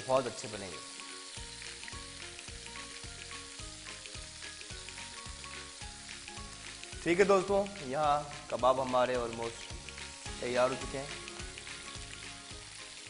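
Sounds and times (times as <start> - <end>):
meat sizzling in frying pan: 0.0 - 13.0.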